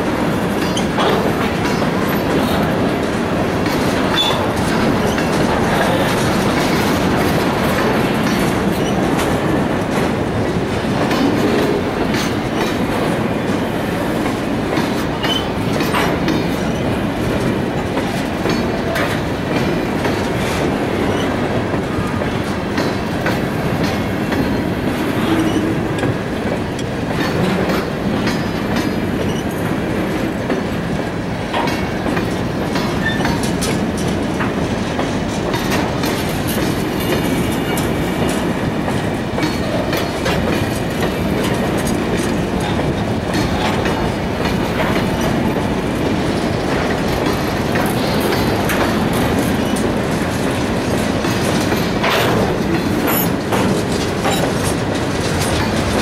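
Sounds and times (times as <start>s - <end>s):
train wheels rumbling on rail: 0.0s - 56.0s
wheels and couplings clanking: 0.0s - 56.0s.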